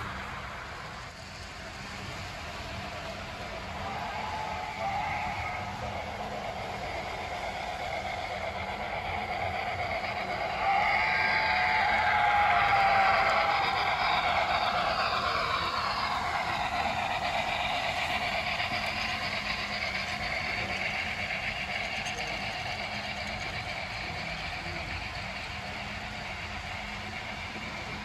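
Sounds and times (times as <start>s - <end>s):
model train running on track: 0.0s - 28.0s.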